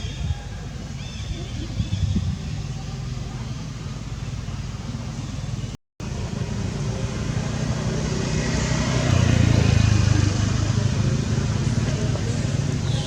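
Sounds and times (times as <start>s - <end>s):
vehicle engine running: 1.8s - 13.0s.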